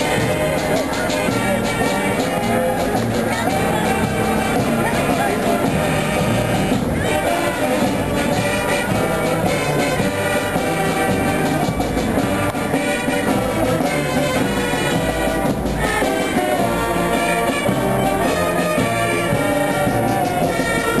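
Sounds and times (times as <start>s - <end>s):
music with steady drum beat: 0.0s - 21.0s.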